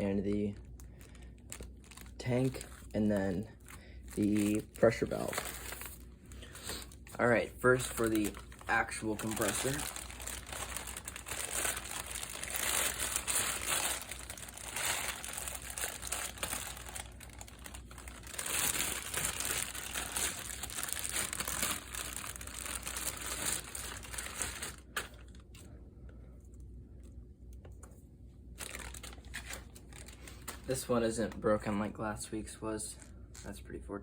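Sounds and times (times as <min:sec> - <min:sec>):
packaging crinkling and rustling: 0:00.0 - 0:25.7, 0:28.6 - 0:31.7.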